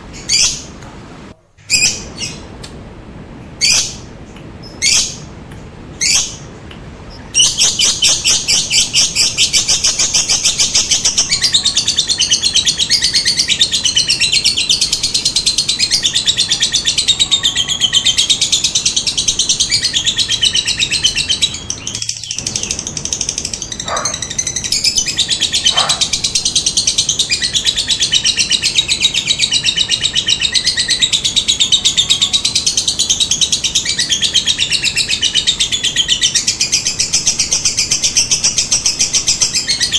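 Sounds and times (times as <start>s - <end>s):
bird chattering trill: 7.1s - 39.9s.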